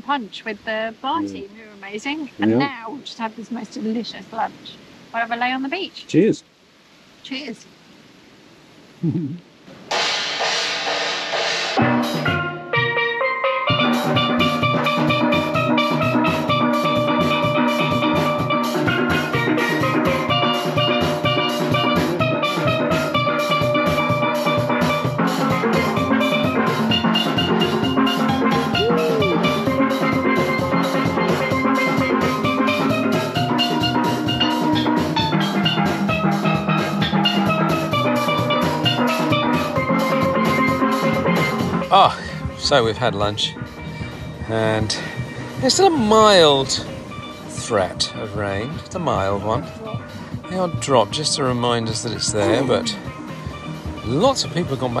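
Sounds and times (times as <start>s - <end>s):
drum kit: 2.4s - 2.8s, 9.0s - 55.0s.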